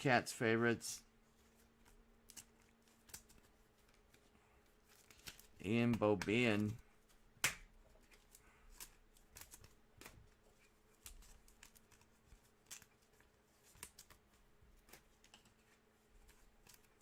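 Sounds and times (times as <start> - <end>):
trading cards clicking and rustling: 1.4 - 17.0.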